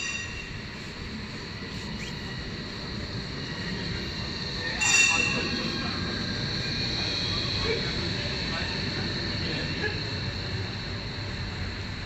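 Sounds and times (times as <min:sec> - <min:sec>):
tram wheels squealing on rails: 0:00.0 - 0:12.0.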